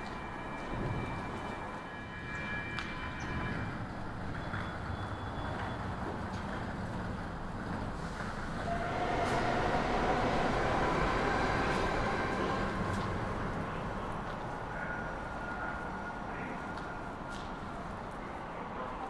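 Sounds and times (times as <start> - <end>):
metro train rumble: 0.0 - 19.0.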